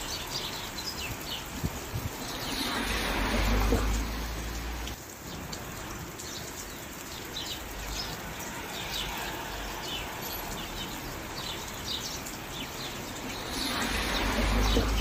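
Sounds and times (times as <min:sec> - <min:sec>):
birds chirping: 0:00.0 - 0:15.0
rain hiss: 0:00.0 - 0:15.0.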